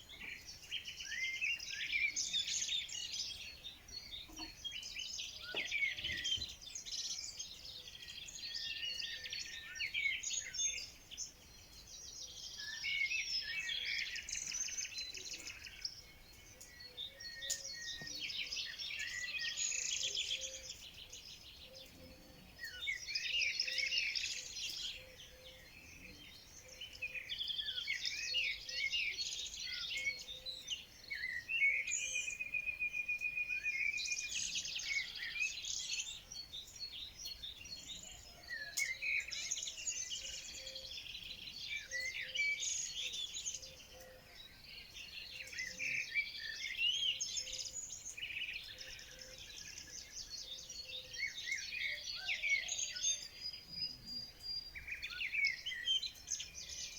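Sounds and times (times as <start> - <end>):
songbirds singing and chirping: 0.0 - 56.9.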